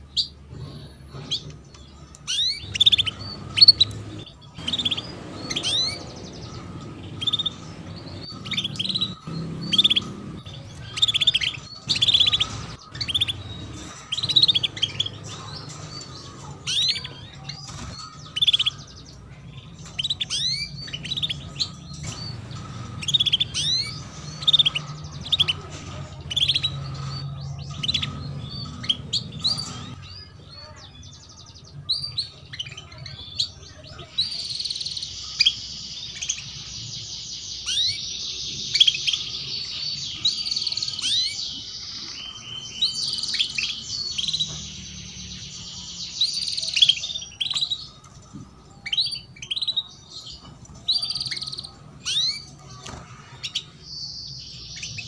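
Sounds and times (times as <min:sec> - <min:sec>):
canaries chirping: 0:00.0 - 0:55.0
canary trilled song: 0:00.0 - 0:55.0.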